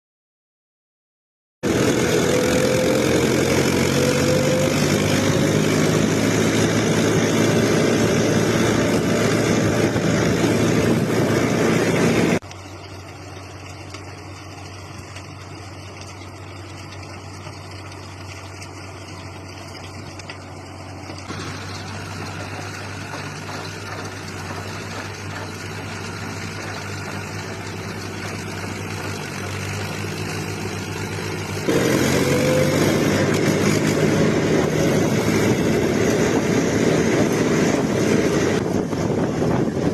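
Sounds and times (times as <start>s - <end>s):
tractor engine running: 1.6s - 39.9s.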